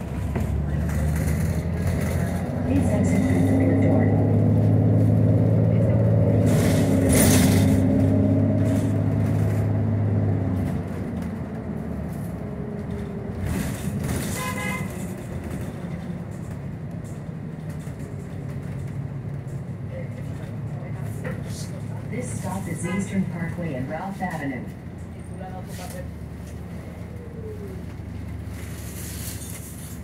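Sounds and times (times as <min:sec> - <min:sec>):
bus engine hum: 0:00.0 - 0:30.0.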